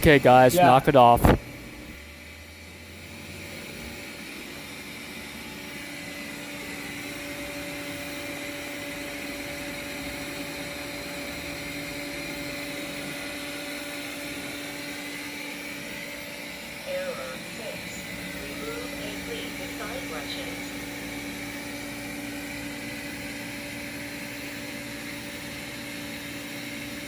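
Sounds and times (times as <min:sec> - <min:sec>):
robot vacuum cleaner running: 0:00.0 - 0:27.0.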